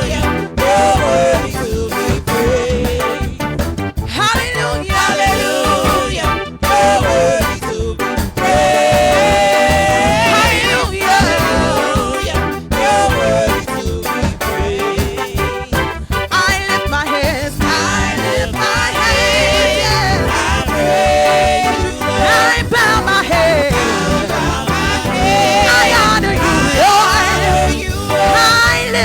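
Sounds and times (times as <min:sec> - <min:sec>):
gospel band with singing: 0:00.0 - 0:29.0.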